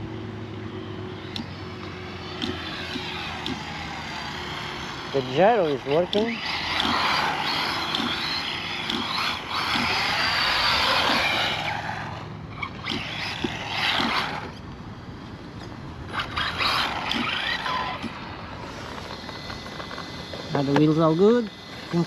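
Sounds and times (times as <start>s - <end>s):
rc car motor and tyres: 0.0s - 22.0s.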